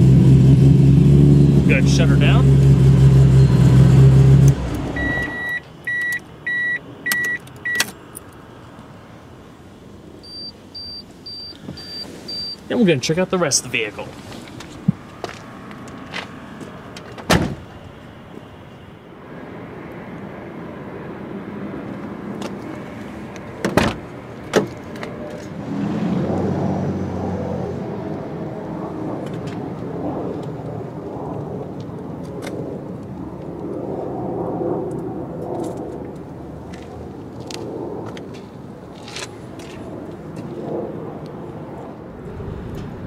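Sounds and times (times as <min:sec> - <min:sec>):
steady rumbling noise: 0:00.0 - 0:07.0, 0:08.6 - 0:43.0.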